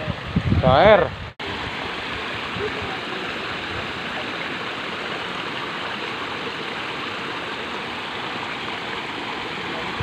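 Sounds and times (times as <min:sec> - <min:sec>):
water rushing in ditch: 0:00.0 - 0:10.0.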